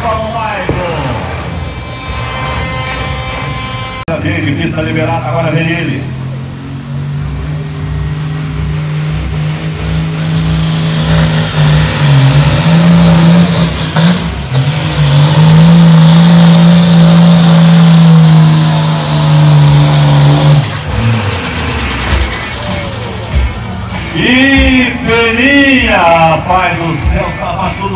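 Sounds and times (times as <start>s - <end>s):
diesel engine at full power: 0.0s - 27.9s
high turbo whine: 0.0s - 27.9s.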